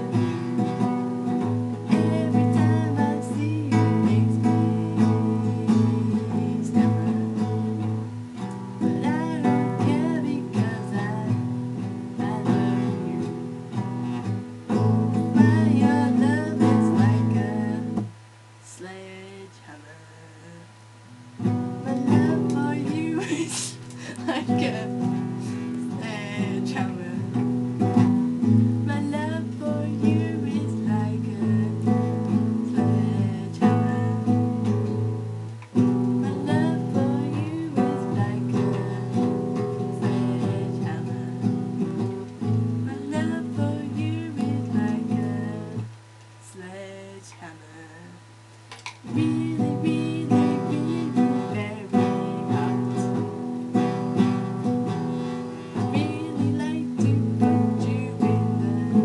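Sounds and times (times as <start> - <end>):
acoustic guitar strumming: 0.0 - 59.0
person singing: 1.7 - 8.1, 8.8 - 13.6, 15.2 - 18.1, 18.7 - 20.8, 21.7 - 35.0, 36.1 - 48.3, 49.0 - 59.0.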